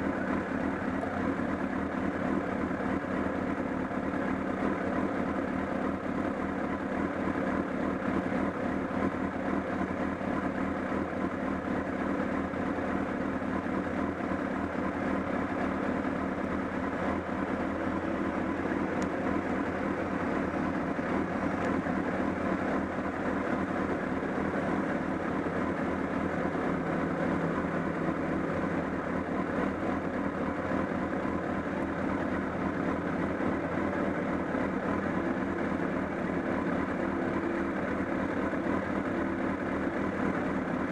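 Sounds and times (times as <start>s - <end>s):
flapping engine clatter: 0.0s - 40.9s
motorcycle engine idling: 0.0s - 40.9s.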